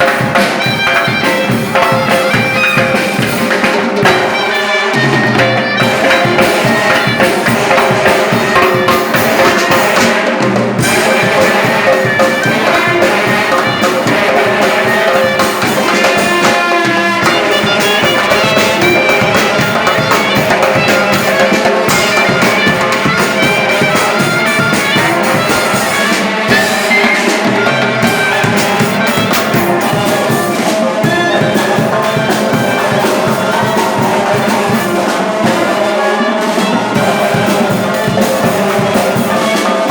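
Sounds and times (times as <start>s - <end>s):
band playing loud music: 0.0s - 39.9s
horns: 0.0s - 39.9s
steady drum beat: 0.0s - 39.9s.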